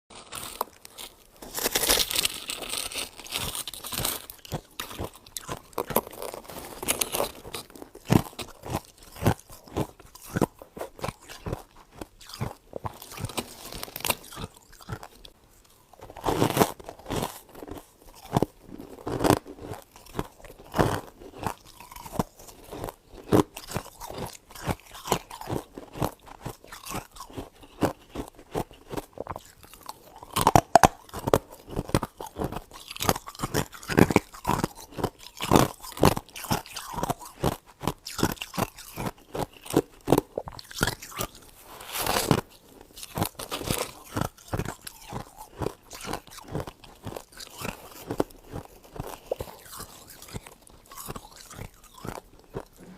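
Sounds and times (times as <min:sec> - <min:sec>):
crunching of icy frost chewed: 0:00.1 - 0:52.9.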